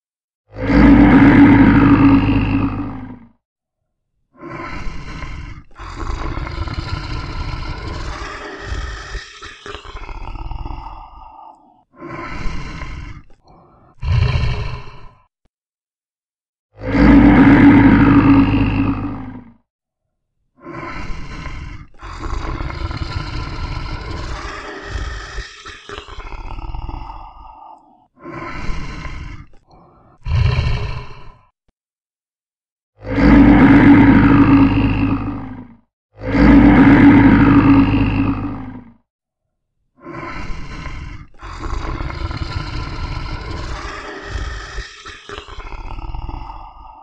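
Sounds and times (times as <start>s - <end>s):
bear growling: 0.5s - 3.4s, 4.4s - 15.3s, 16.8s - 19.6s, 20.6s - 31.5s, 33.0s - 39.0s, 40.0s - 47.0s.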